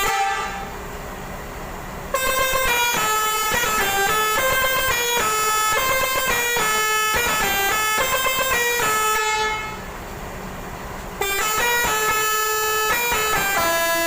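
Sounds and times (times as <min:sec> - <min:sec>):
bus horn playing a quick tune: 0:00.0 - 0:00.8, 0:02.1 - 0:09.9, 0:11.2 - 0:14.0.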